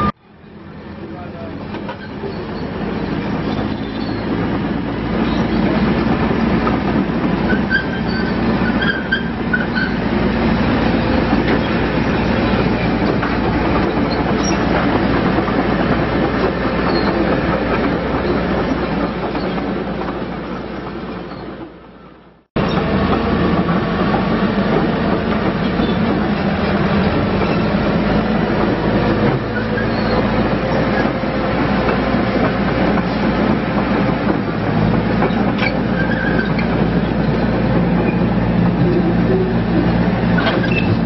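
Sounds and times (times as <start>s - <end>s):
steel tracks clattering: 0.0s - 41.0s.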